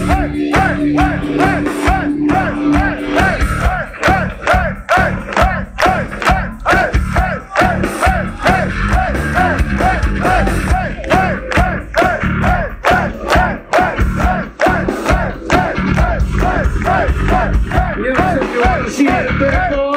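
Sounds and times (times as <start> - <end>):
crowd shouting along: 0.0 - 19.4
heavy metal band playing live: 0.0 - 19.9
pounding drum beat: 0.0 - 19.9.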